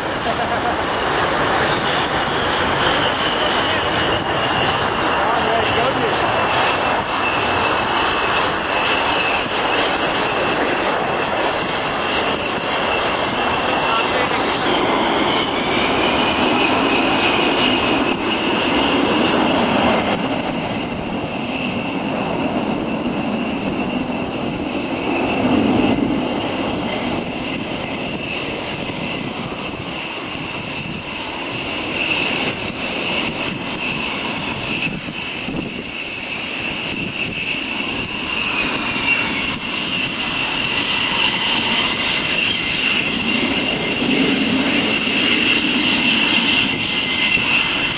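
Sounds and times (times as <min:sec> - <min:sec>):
jet engine high whine: 0:00.0 - 0:47.9
jet engine low rumble: 0:00.0 - 0:47.9.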